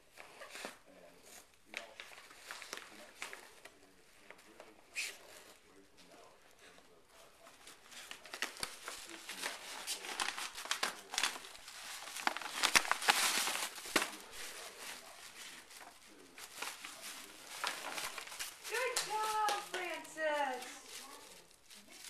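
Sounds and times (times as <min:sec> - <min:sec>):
dog tearing tissue paper: 0:00.1 - 0:22.0.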